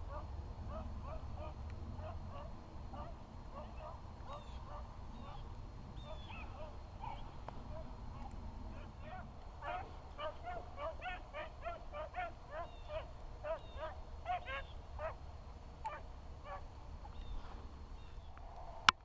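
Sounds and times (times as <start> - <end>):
hounds baying and yelping: 0.0 - 17.6.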